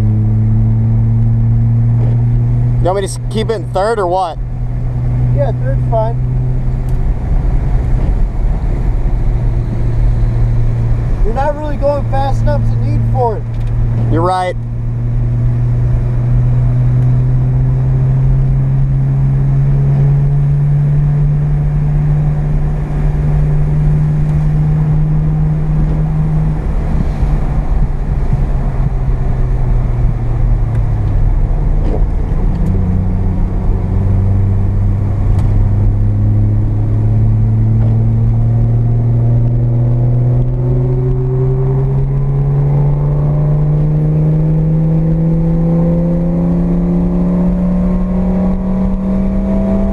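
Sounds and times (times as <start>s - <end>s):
low road noise rumble: 0.0s - 49.9s.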